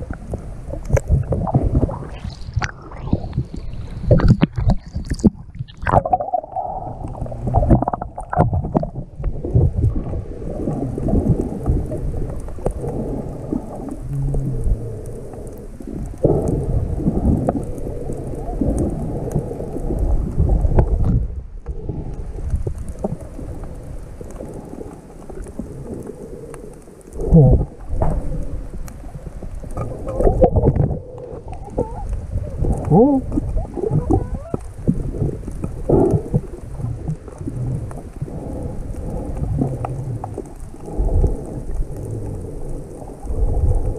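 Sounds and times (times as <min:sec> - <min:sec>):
gurgling bubbles: 0:00.0 - 0:43.9
underwater rush of water: 0:00.0 - 0:43.9.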